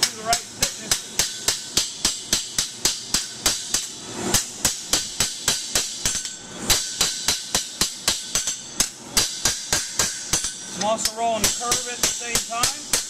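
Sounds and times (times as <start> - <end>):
hammer striking sheet steel: 0.0 - 13.0.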